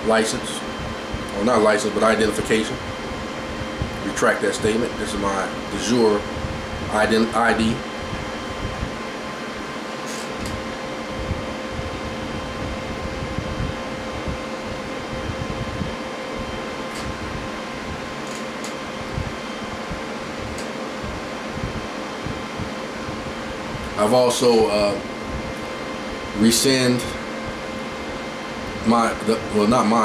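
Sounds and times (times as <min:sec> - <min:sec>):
electric fan whirring: 0:00.0 - 0:30.0.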